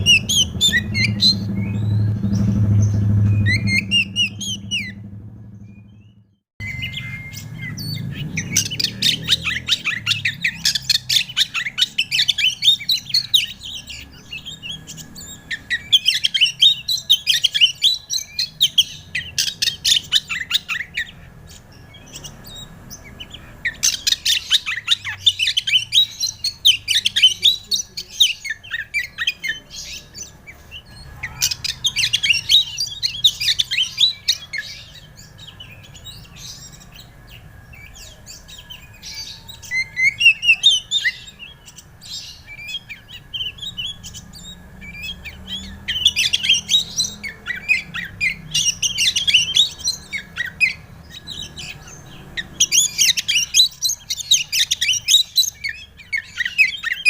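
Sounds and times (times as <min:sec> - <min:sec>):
bird singing chattering runs: 0:00.0 - 0:57.0.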